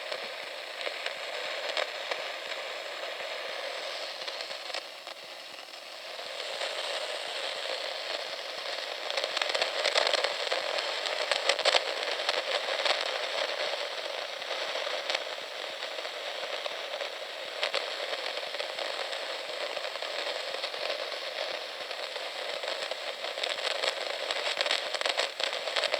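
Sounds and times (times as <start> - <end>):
dense crackling with pops: 0.0 - 25.9.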